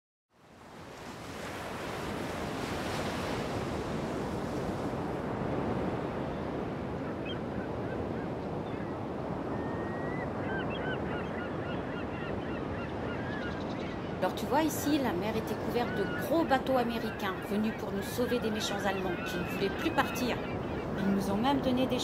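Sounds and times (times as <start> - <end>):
wind: 0.3 - 22.0.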